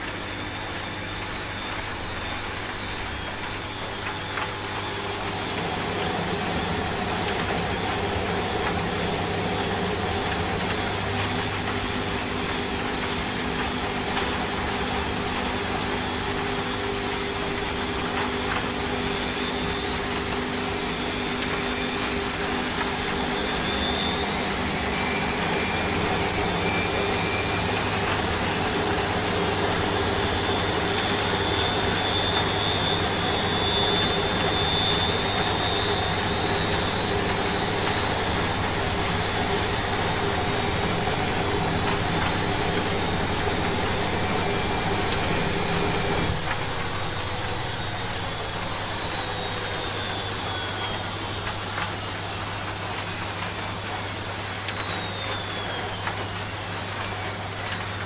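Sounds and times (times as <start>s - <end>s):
low machine hum: 0.0s - 58.0s
rain hiss: 0.0s - 58.0s
washing machine motor whine: 0.0s - 58.0s.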